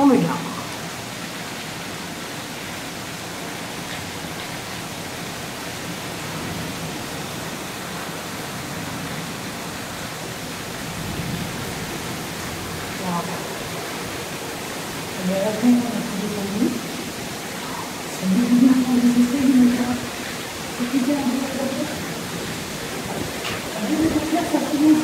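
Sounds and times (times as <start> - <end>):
torrential rain pouring: 0.0 - 25.0.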